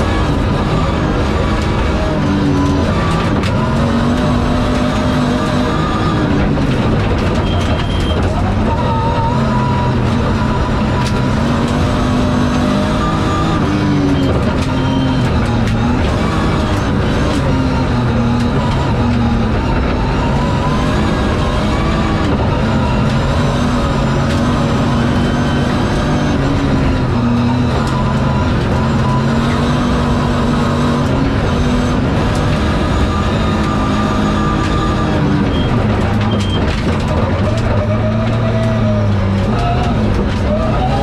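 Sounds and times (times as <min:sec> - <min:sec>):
car engine running hard: 0:00.0 - 0:41.0
tyre and road noise: 0:00.0 - 0:41.0.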